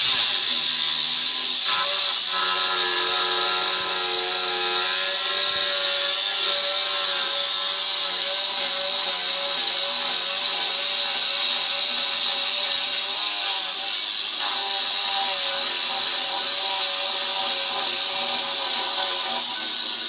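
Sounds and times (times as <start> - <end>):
angle grinder cutting stone: 0.0 - 20.0.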